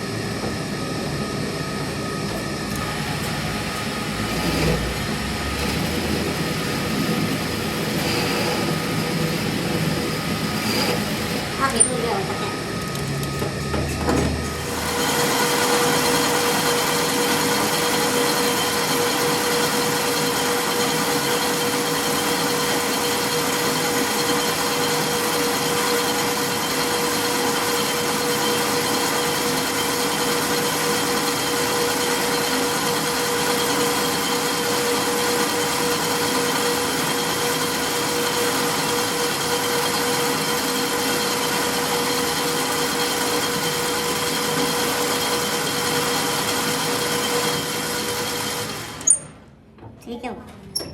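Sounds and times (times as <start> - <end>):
workshop machine motor running: 0.0 - 49.7.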